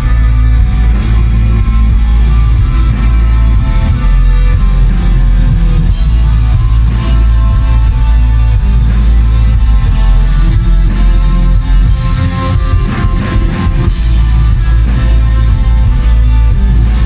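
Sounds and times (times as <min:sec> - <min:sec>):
black metal band playing live: 0:00.0 - 0:17.0.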